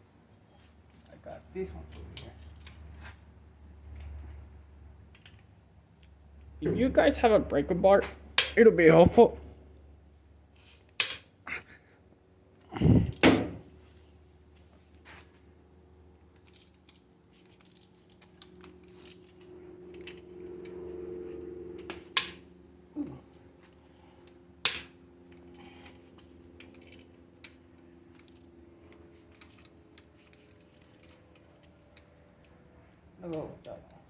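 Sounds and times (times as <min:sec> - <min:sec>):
faint steady hum: 0:04.0 - 0:34.0.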